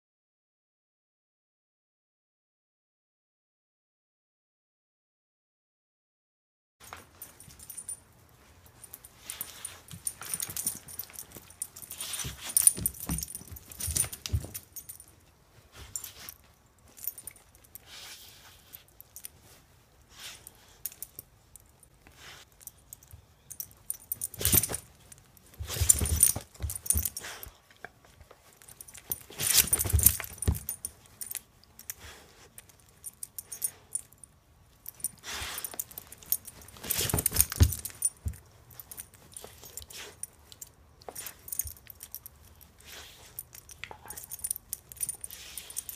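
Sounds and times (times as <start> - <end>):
dog collar tags jangling: 6.8 - 19.6, 20.2 - 45.9.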